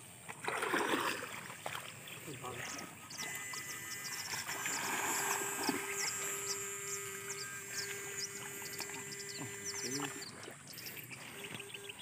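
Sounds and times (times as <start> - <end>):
steady electric whine: 2.2 - 12.0.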